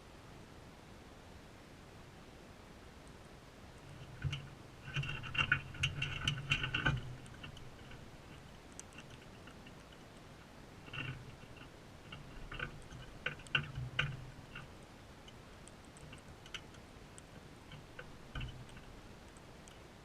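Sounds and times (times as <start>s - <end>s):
beaks pecking and cracking seed: 3.8s - 19.9s.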